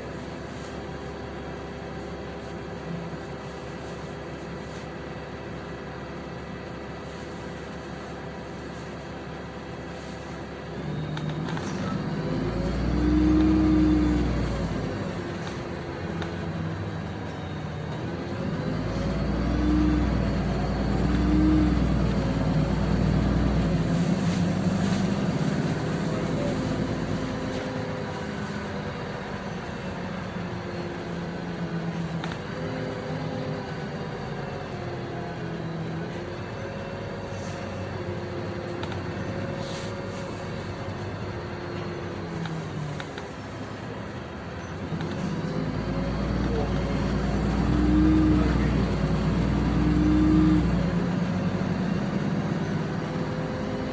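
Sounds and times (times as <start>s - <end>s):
bus diesel engine running: 0.0s - 53.9s
road noise: 0.0s - 53.9s.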